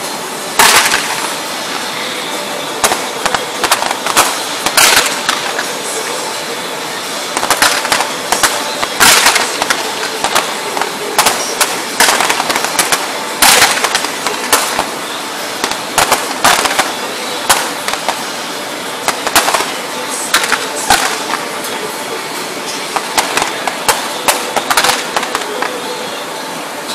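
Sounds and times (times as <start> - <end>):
fireworks bangs and crackling: 0.6 - 26.0.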